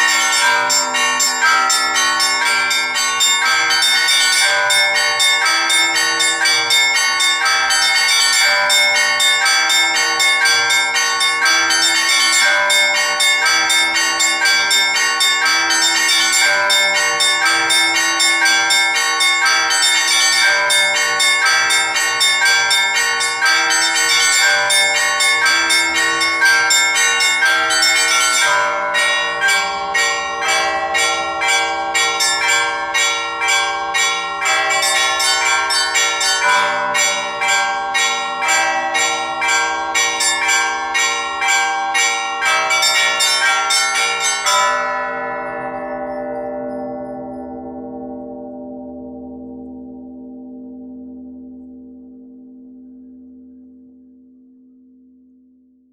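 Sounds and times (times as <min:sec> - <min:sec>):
church bells pealing: 0:00.0 - 0:50.6.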